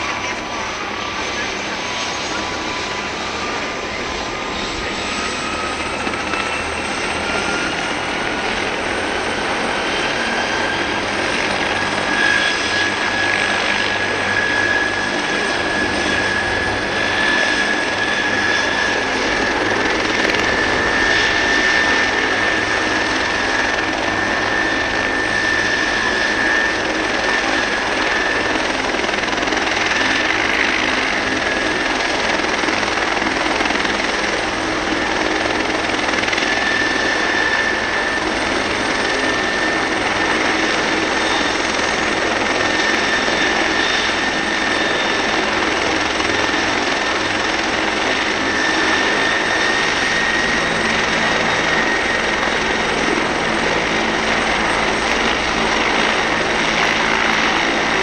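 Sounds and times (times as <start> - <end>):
helicopter turbine engines running: 0.0 - 58.0
rising turbine whine: 0.0 - 58.0.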